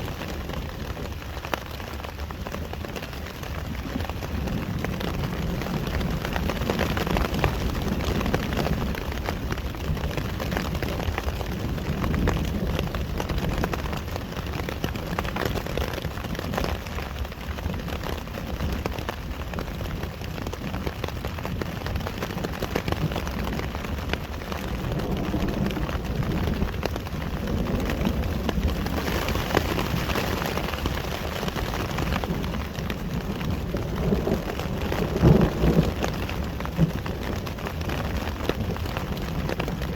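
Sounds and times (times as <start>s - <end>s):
rain drops ticking: 0.0s - 39.9s
low thunder rumble: 2.2s - 39.9s.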